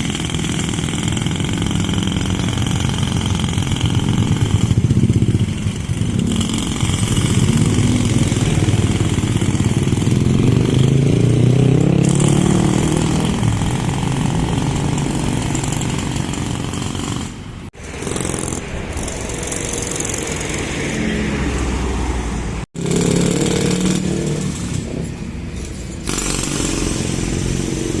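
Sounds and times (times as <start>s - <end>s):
motorcycles and vehicles passing: 1.1s - 28.0s.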